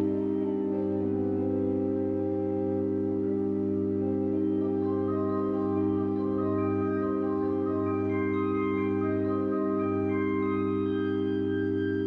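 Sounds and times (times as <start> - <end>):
slow melody over sustained chord: 0.0 - 12.0.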